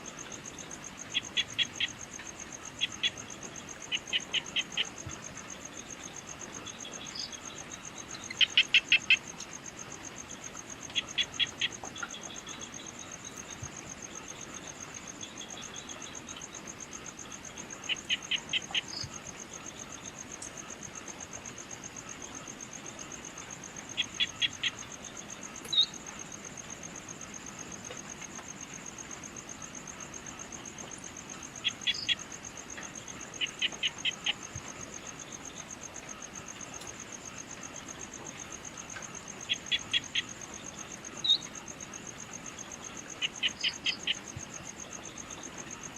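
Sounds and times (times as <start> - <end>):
cricket-like trill: 0.0 - 45.9.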